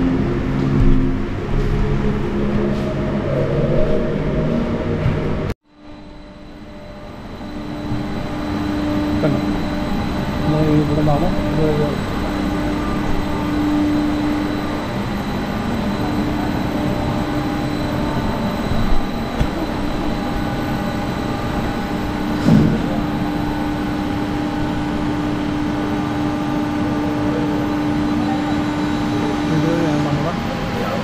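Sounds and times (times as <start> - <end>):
faint steady tones: 0.0 - 31.0
machine hum: 0.0 - 31.0.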